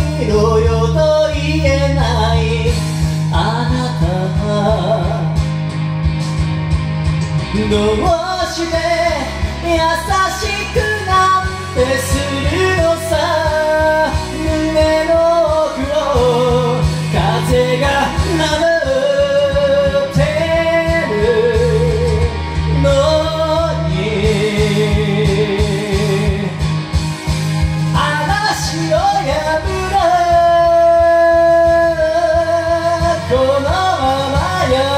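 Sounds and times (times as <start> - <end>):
karaoke backing track: 0.0 - 34.9
person singing a ballad: 0.0 - 34.9.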